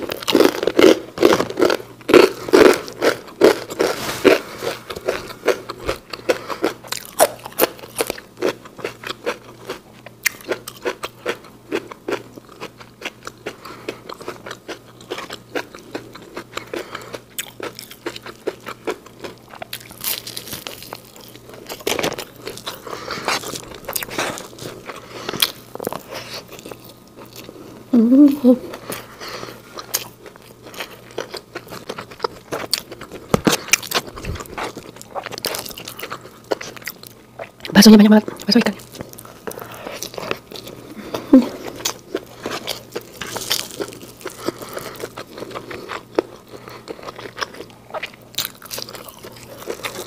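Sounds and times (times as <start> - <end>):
chewing with crisp crunches: 0.0 - 27.9, 28.7 - 50.0.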